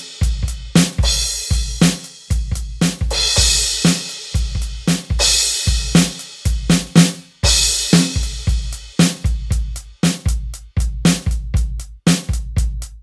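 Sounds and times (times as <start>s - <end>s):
electronic drum rock beat: 0.0s - 13.0s.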